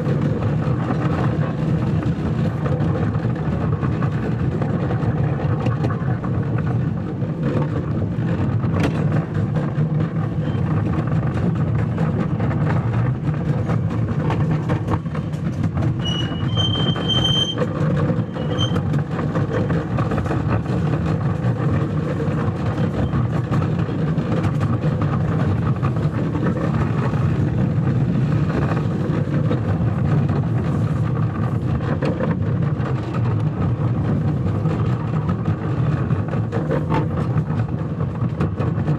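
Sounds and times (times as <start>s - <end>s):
diesel locomotive engine drone: 0.0s - 38.9s
train clicks and rattles: 0.0s - 38.9s.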